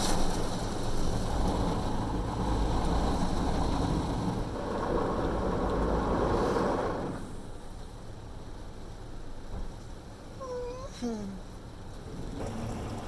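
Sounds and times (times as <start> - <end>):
car wash rushing and rumbling: 0.0 - 10.6, 11.4 - 13.0.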